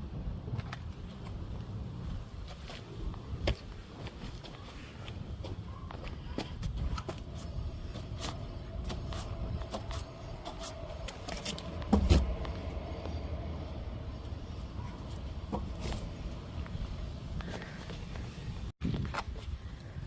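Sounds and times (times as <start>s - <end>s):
low road rumble: 0.0s - 20.0s.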